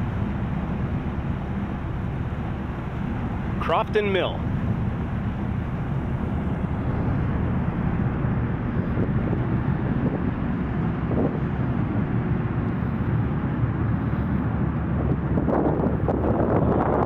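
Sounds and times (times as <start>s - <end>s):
ferry engines rumbling: 0.0s - 17.0s
water noise: 0.0s - 17.0s.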